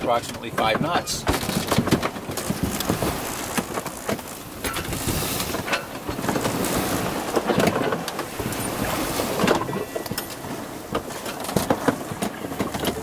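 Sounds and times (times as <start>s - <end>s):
wind and water rushing: 0.0s - 13.0s
short splashes or knocks: 0.6s - 13.0s.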